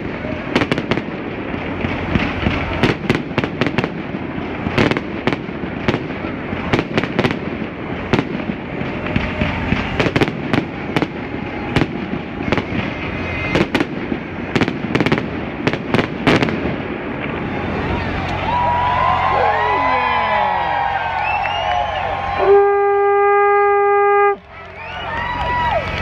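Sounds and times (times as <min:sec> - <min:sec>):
fireworks exploding with echoes: 0:00.0 - 0:22.7.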